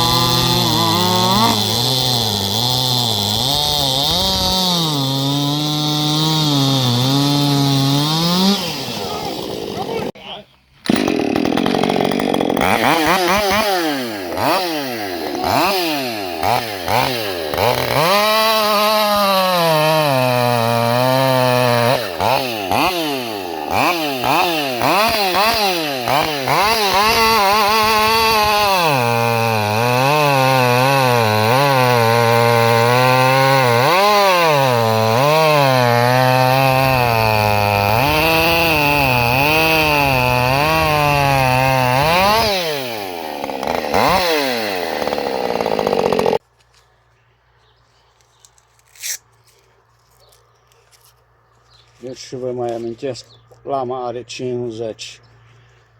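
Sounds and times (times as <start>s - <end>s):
chainsaw revving and cutting wood: 0.0s - 10.2s, 10.8s - 46.4s.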